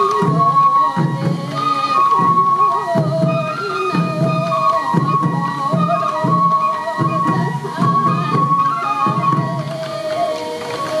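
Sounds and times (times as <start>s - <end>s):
bamboo flutes melody: 0.0s - 11.0s
taiko drums beat: 0.1s - 10.9s.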